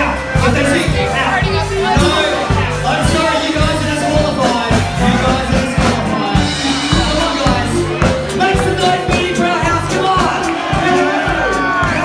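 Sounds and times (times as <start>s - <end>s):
loud music with steady beat: 0.0s - 12.0s
voices over music: 0.0s - 12.0s.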